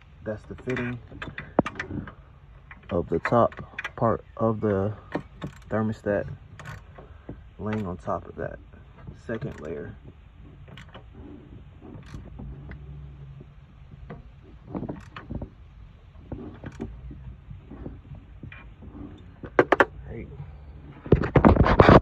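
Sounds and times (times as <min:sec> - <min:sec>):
clicks and knocks of parts: 0:00.0 - 0:22.0.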